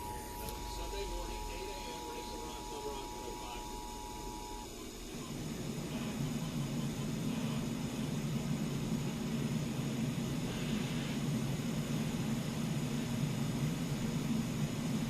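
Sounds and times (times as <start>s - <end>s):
radio static hum and hiss: 0.0s - 15.0s.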